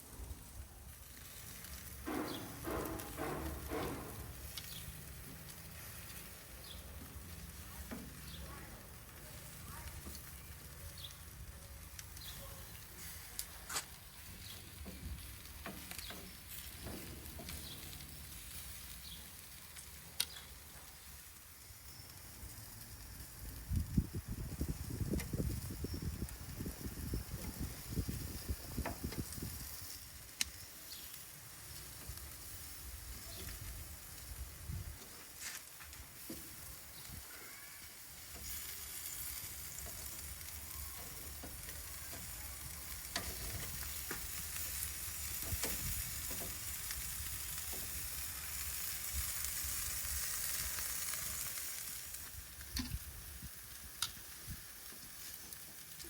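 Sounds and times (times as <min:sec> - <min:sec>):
shrimp sizzling on a grill: 0:00.0 - 0:56.0.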